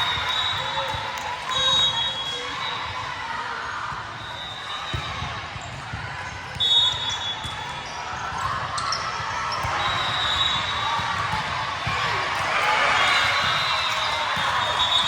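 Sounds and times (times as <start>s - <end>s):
crowd chatter: 0.0s - 15.0s.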